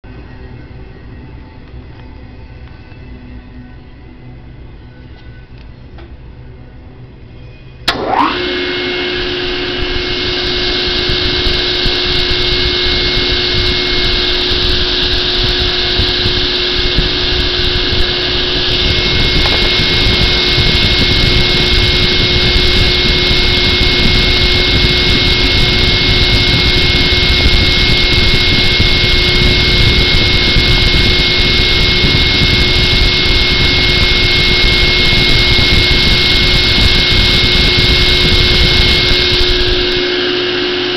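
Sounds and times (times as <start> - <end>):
table saw running with high whine: 7.8 - 40.9.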